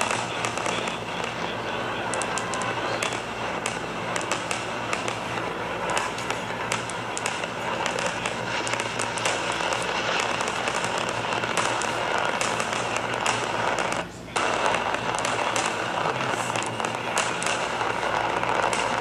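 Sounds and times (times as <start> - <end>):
fireworks crackling: 0.0 - 19.0
steady rush: 0.0 - 19.0.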